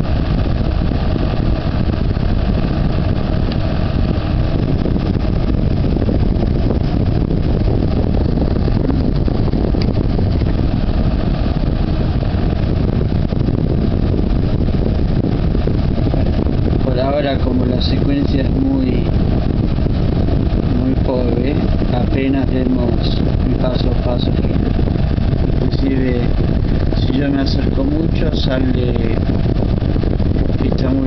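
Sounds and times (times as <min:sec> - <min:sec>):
electric fan running: 0:00.0 - 0:31.0.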